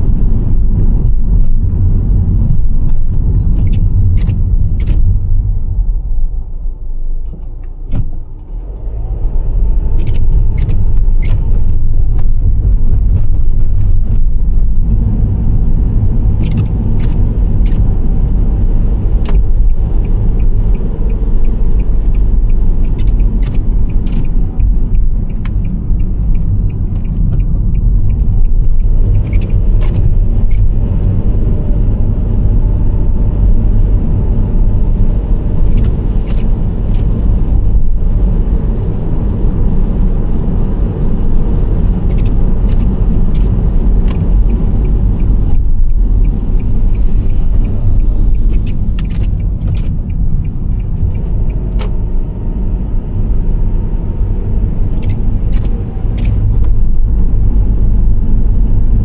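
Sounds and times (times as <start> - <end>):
road and engine rumble: 0.0 - 59.0.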